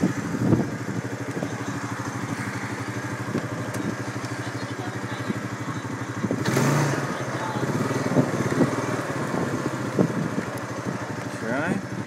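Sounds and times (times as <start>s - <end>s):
quad engine idling: 0.0s - 12.0s.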